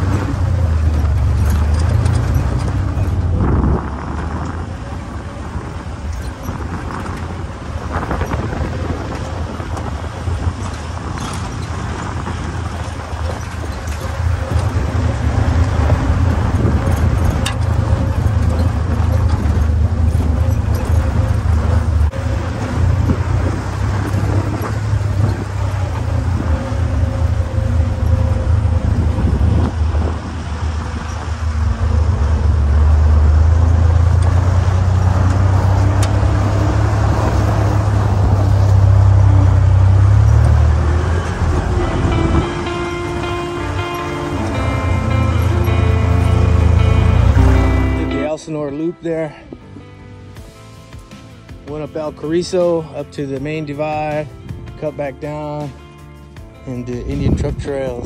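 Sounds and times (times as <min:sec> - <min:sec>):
jeep engine droning: 0:00.0 - 0:58.0.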